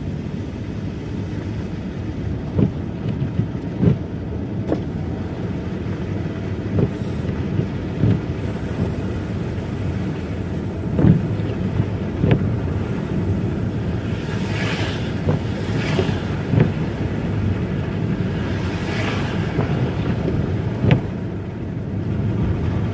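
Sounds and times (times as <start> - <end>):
car engine and road rumble: 0.0 - 22.9.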